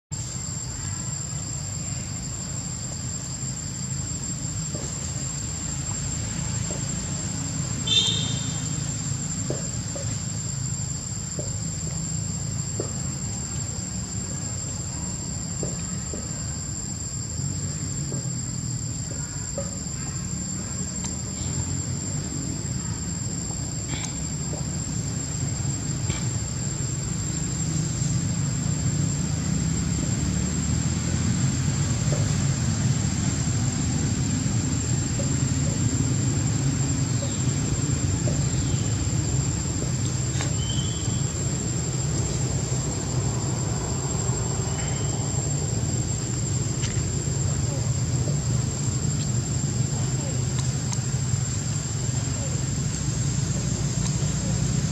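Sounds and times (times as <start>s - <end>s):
high-pitched insect drone: 0.1s - 54.9s.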